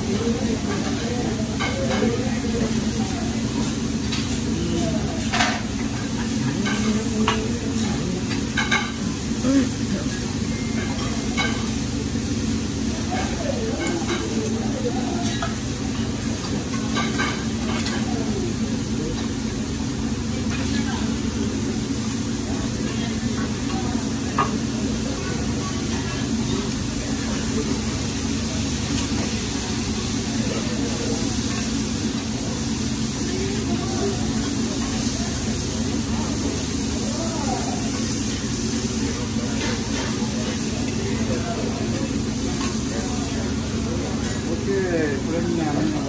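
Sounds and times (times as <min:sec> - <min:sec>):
food sizzling on a griddle: 0:00.0 - 0:46.0.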